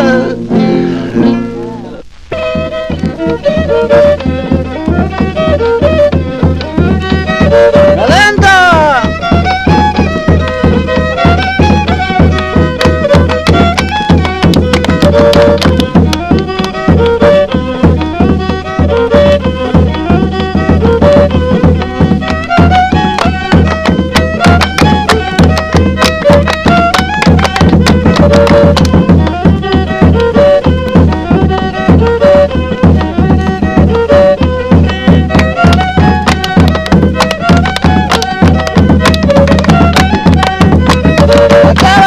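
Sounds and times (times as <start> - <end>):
fiddle melody: 0.0 - 42.0
fast drum beat: 2.5 - 42.0.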